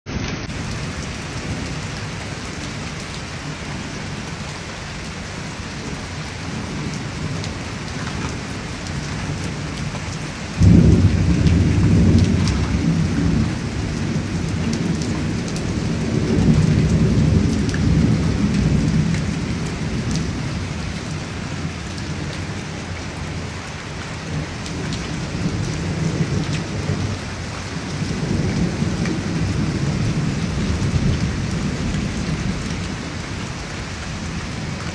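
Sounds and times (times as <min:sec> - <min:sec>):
heavy rain: 0:00.1 - 0:34.9
thunder crack and rumble: 0:05.8 - 0:22.4, 0:23.2 - 0:34.9.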